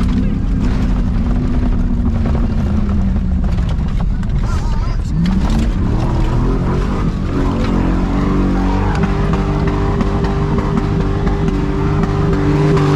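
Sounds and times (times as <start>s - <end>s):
truck engine revving: 0.0s - 12.9s.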